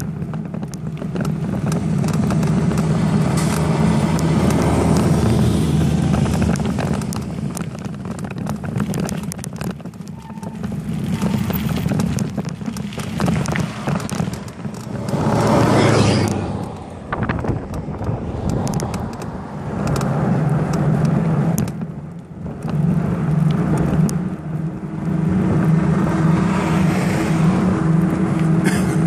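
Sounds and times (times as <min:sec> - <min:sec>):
bike clicks and rattles: 0:00.0 - 0:24.5
bicycle riding rumble: 0:00.0 - 0:29.0.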